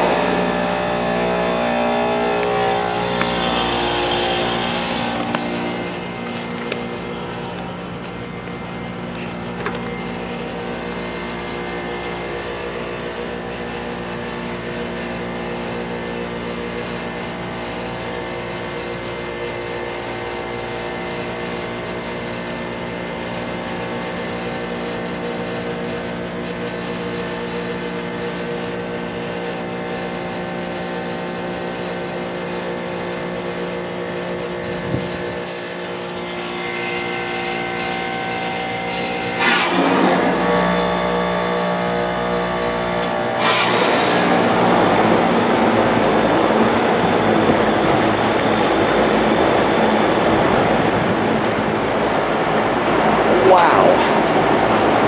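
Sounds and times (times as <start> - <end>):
heat pump compressors humming: 0.0 - 55.0.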